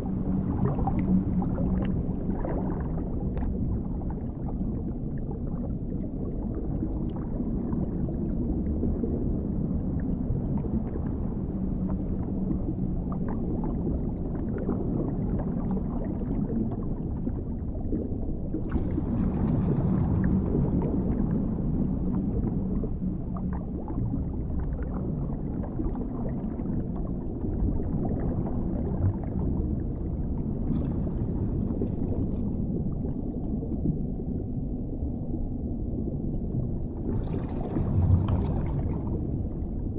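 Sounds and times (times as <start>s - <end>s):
deep muffled underwater rumble: 0.0s - 39.9s
water gurgling: 0.0s - 39.9s.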